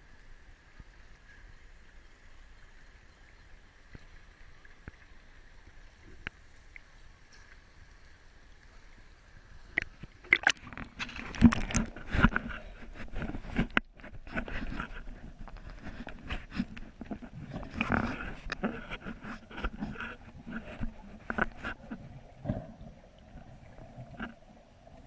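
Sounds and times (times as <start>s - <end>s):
faint steady hiss: 0.0s - 25.0s
water splashing and bubbling: 3.7s - 25.0s.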